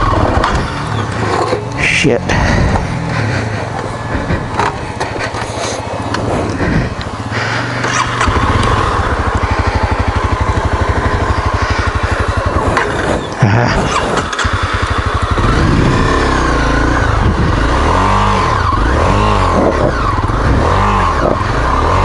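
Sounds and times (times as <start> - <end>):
motorcycle engine chugging: 0.0 - 22.0.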